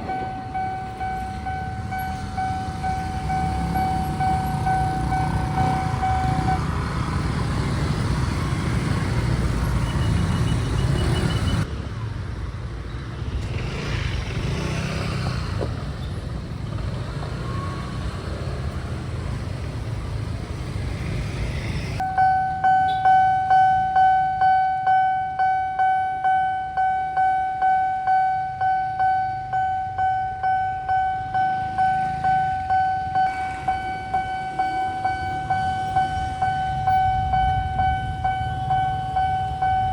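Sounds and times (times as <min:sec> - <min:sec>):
passing vehicles rumble: 0:00.0 - 0:24.9, 0:28.4 - 0:39.9
road noise: 0:00.0 - 0:39.9.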